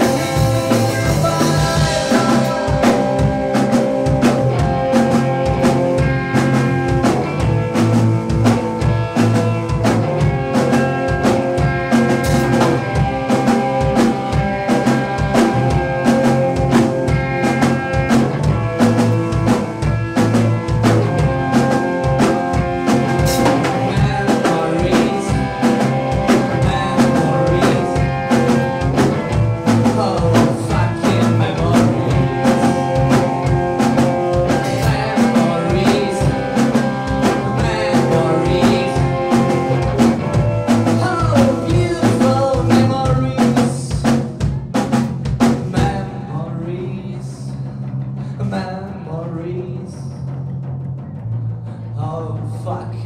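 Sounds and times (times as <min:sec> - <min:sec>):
electric guitar: 0:00.0 - 0:52.0
bass guitar: 0:00.0 - 0:53.0
drum kit: 0:00.0 - 0:53.0.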